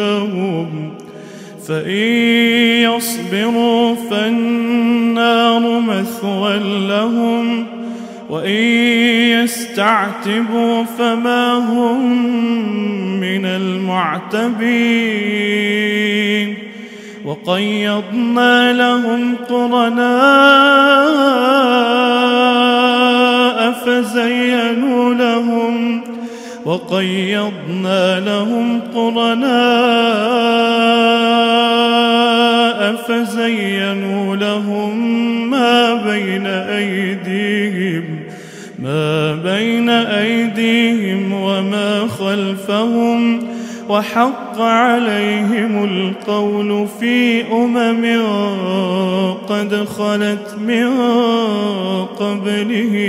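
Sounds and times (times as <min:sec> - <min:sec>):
man chanting melodic recitation: 0:00.0 - 0:53.0.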